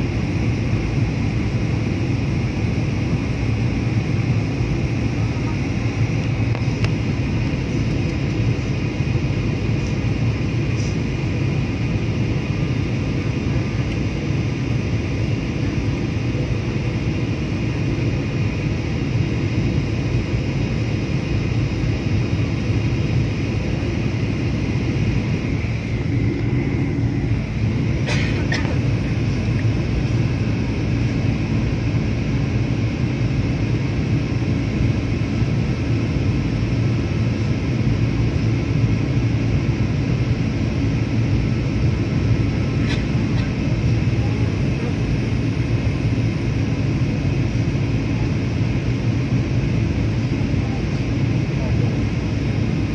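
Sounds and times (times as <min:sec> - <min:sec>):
aircraft cabin engine and air noise: 0:00.0 - 0:52.9.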